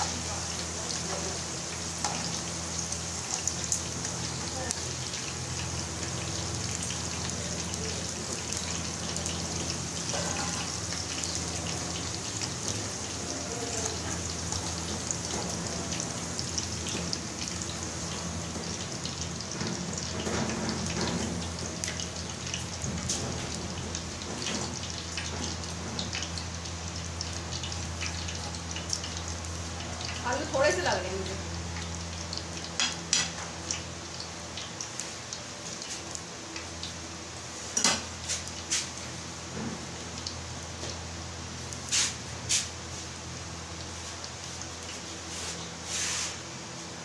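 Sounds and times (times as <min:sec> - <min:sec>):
fries sizzling in hot oil: 0:00.0 - 0:47.0.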